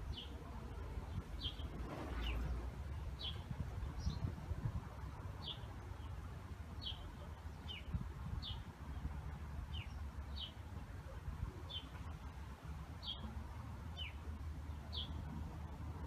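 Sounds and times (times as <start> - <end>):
songbird chirping: 0.0 - 15.7.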